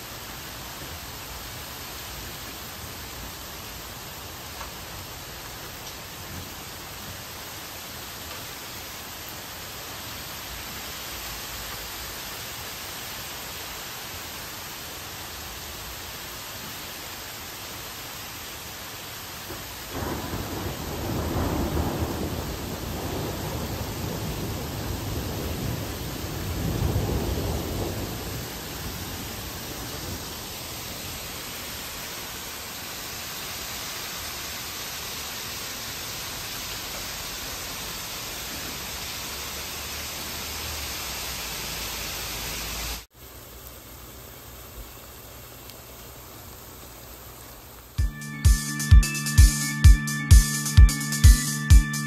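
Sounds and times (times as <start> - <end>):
heavy rain and hail on concrete: 0.0 - 48.0.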